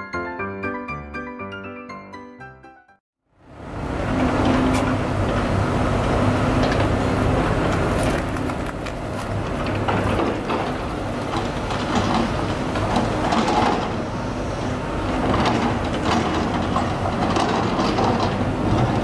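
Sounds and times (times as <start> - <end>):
street traffic noise: 3.4 - 19.0.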